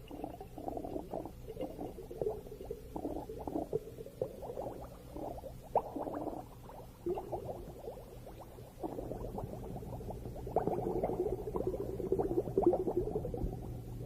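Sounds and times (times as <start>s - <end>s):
steady low hum: 0.0s - 14.0s
underwater bubbling and gurgling: 0.0s - 14.0s.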